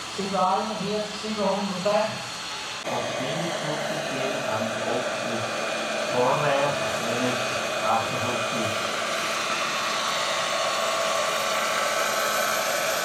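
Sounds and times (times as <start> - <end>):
model helicopter turbine whine: 0.0 - 13.0.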